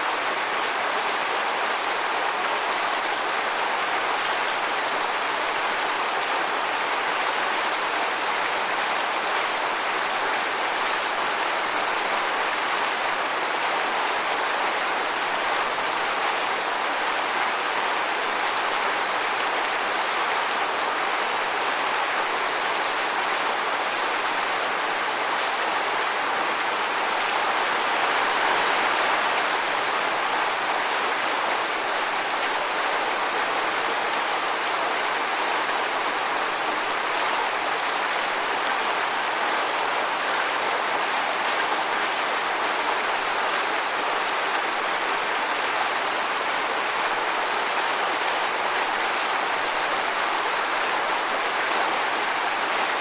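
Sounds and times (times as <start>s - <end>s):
waterfall roar: 0.0s - 53.0s.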